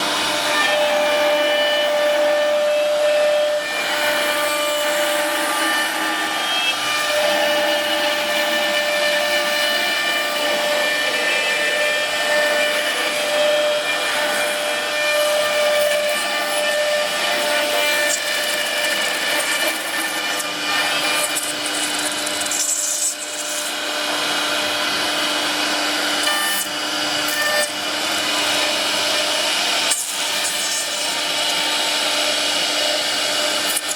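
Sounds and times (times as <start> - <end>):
router spindle cutting wood: 0.0 - 33.9.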